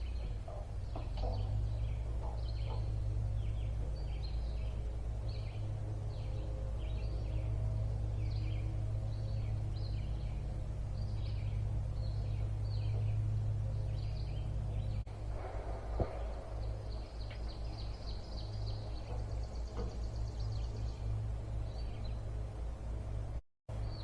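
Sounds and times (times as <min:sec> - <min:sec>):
small birds chirping: 0:00.0 - 0:15.2, 0:15.9 - 0:24.0
steady low hum: 0:00.0 - 0:24.0.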